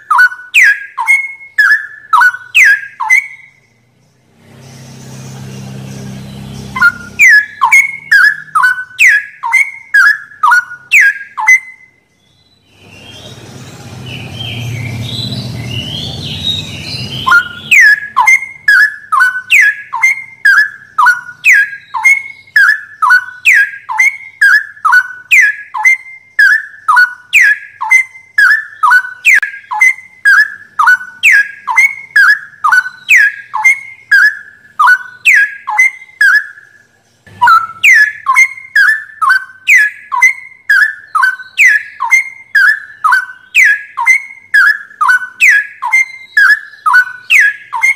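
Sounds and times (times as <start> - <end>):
bird whistling song: 0.0 - 47.9.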